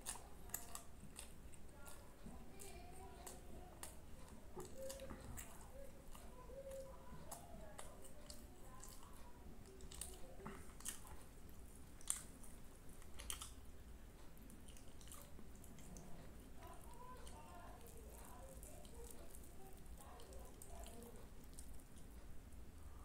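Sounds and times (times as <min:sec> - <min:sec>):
chewing and mouth smacks: 0:00.0 - 0:23.0.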